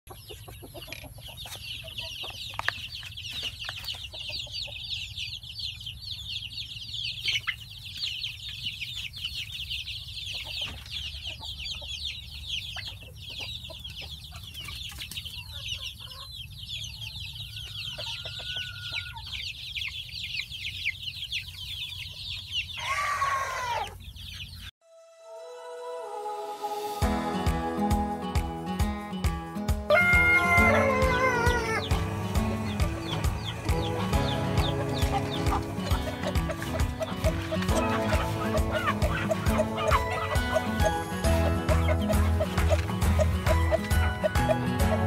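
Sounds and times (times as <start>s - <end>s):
hens clucking: 0.1s - 5.4s, 7.0s - 24.6s, 29.9s - 45.0s
chicks peeping: 0.1s - 24.7s, 29.9s - 45.0s.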